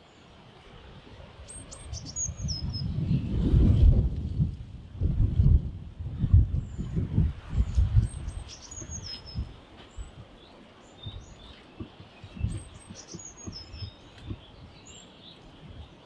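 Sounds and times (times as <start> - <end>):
wild birds chirping: 0.0 - 3.8, 6.2 - 16.0.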